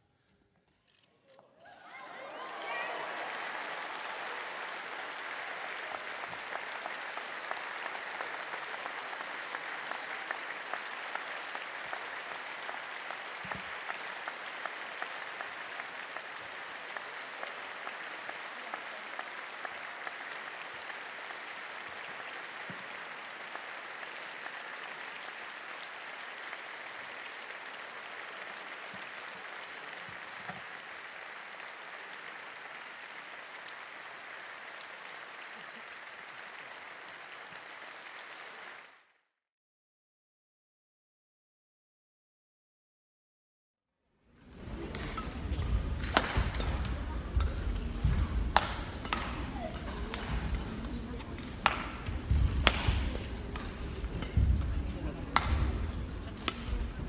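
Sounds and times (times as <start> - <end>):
audience applause: 1.0 - 39.1, 44.4 - 57.0.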